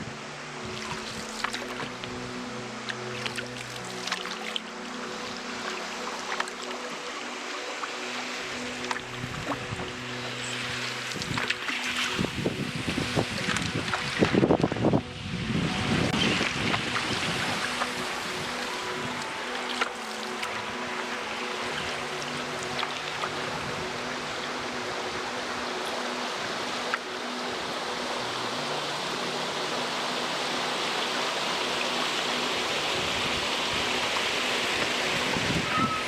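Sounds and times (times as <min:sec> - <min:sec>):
river water rushing: 0:00.0 - 0:36.0
soft sustained music notes: 0:00.0 - 0:36.0.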